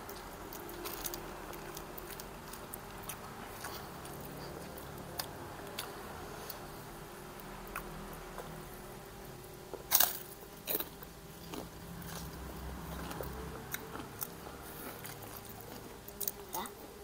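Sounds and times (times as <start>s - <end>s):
crunchy chewing: 0.0s - 6.8s, 9.7s - 16.8s.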